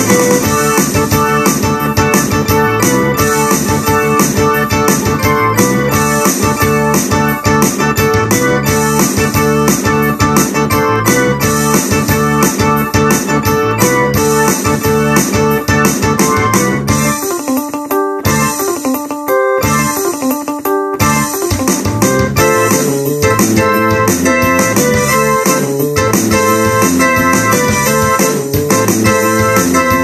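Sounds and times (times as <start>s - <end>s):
synthesizer keyboard rock playing: 0.0s - 30.0s.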